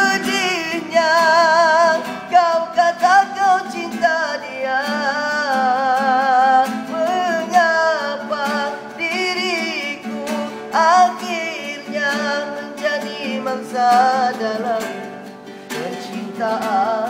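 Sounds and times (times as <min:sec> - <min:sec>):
guitar accompaniment: 0:00.0 - 0:17.0
man singing a slow ballad: 0:00.0 - 0:17.0.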